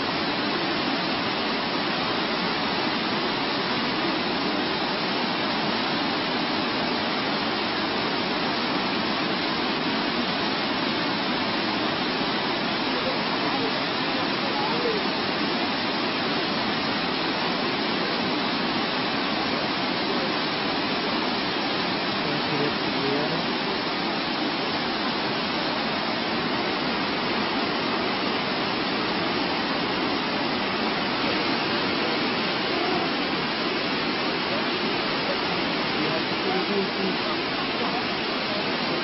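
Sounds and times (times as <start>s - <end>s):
steady rushing noise: 0.0s - 39.0s.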